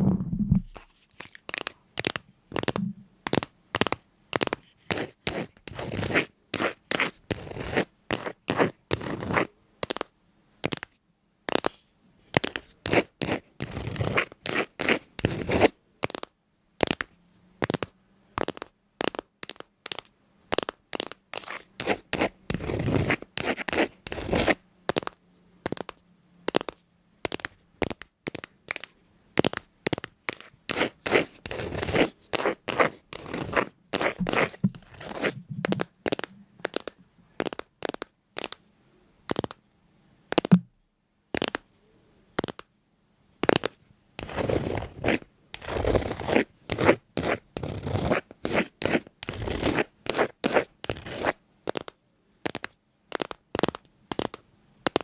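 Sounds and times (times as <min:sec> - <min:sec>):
scratching and crunching strokes: 0:00.0 - 0:10.0, 0:12.4 - 0:38.6, 0:43.4 - 0:55.0.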